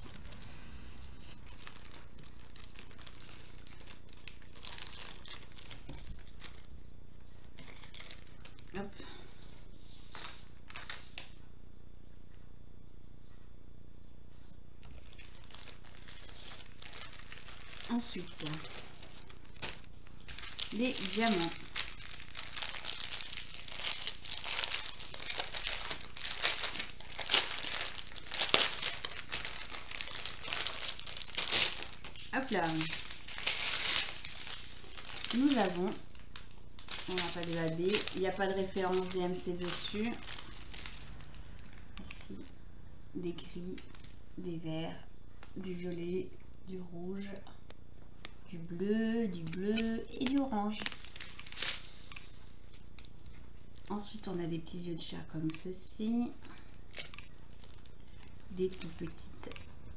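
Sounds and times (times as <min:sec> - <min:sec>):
plastic packaging crinkling: 0:00.0 - 0:11.3, 0:14.8 - 0:42.6, 0:43.6 - 0:44.2, 0:49.3 - 0:59.9.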